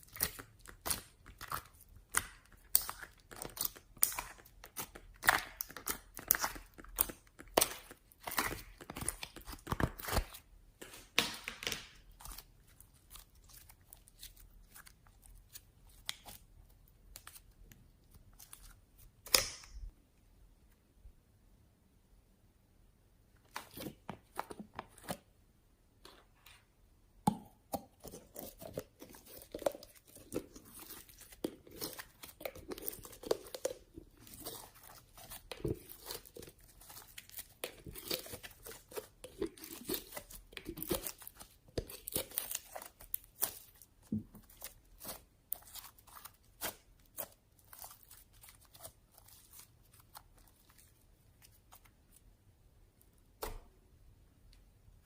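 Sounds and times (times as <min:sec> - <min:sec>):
slime squelching: 0:00.0 - 0:19.9, 0:27.3 - 0:52.4.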